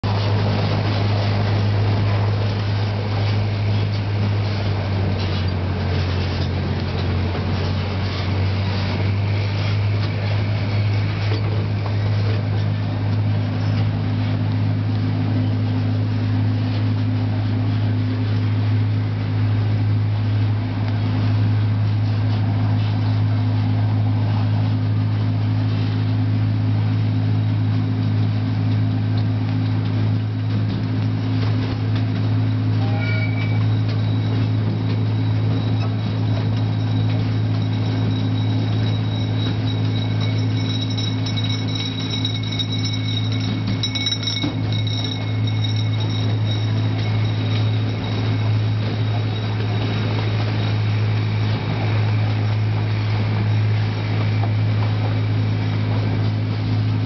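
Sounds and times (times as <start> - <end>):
train cars rolling: 0.0 - 57.0
train engine hum: 0.0 - 57.0.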